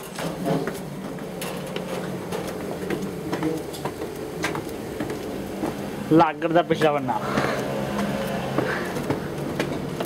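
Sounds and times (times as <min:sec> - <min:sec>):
footsteps on concrete stairs: 0:00.0 - 0:10.0
steady low hum: 0:00.0 - 0:10.0.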